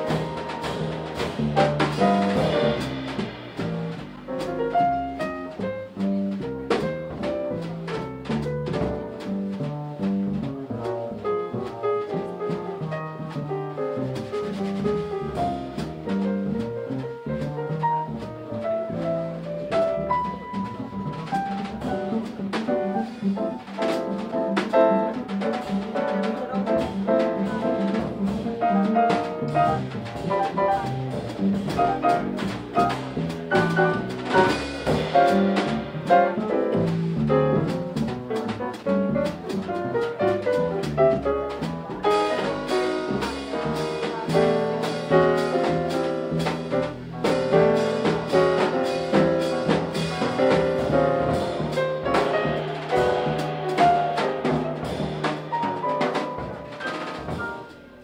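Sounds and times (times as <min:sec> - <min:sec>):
drum kit with cymbals: 0:00.0 - 0:58.0
grand piano: 0:00.0 - 0:58.0
upright double bass: 0:00.0 - 0:58.0.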